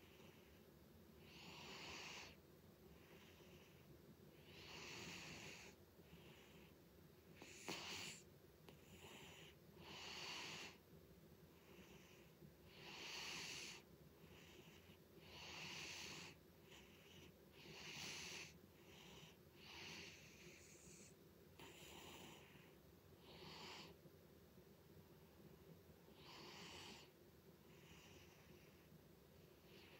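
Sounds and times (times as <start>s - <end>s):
cat snoring: 0.0s - 6.8s, 7.4s - 10.8s, 11.5s - 24.0s, 26.1s - 28.9s, 29.6s - 29.9s.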